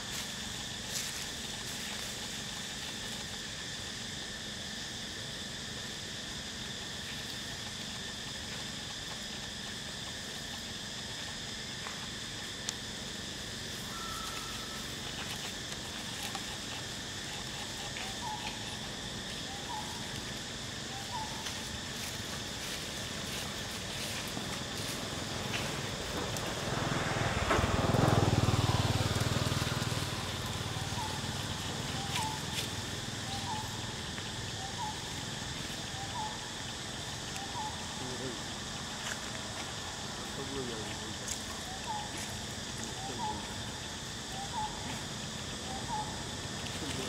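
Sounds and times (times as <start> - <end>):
insect chorus: 0.0 - 47.0
short insect chirps: 0.0 - 47.0.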